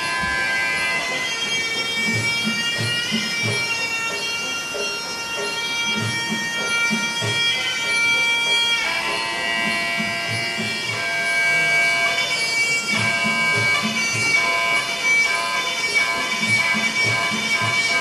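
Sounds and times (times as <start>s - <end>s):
hand drum beats: 0.0s - 11.2s, 12.9s - 15.0s, 15.9s - 18.0s
shrill reed oboe melody: 0.0s - 18.0s.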